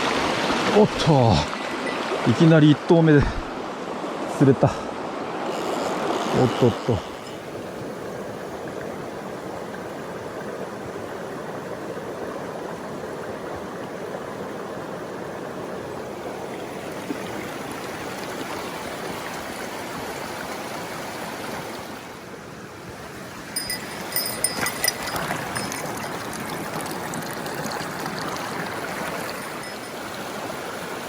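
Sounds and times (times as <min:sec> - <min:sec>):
mountain stream flowing: 0:00.0 - 0:31.0.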